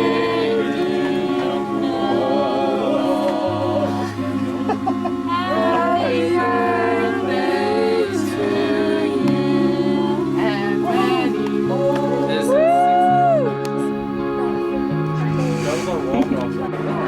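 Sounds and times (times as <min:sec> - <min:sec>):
song with layered vocal harmonies: 0:00.0 - 0:17.0.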